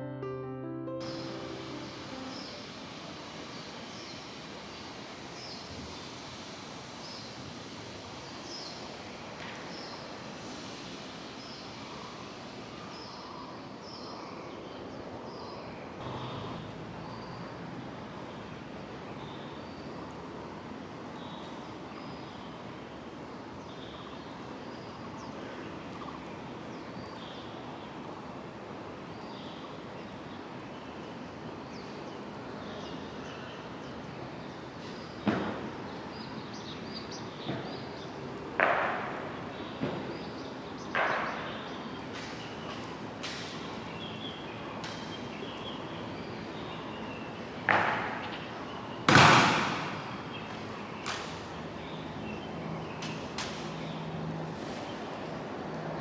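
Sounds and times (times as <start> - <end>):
background hiss: 0.0 - 56.0.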